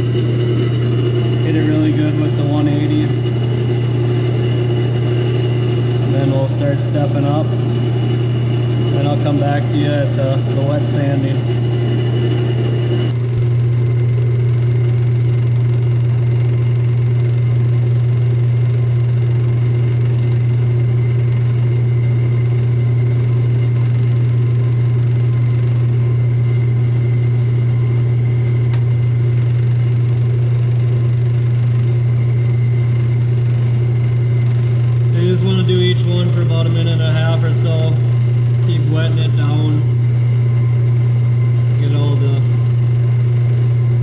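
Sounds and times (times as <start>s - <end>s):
lathe motor humming: 0.0s - 44.0s.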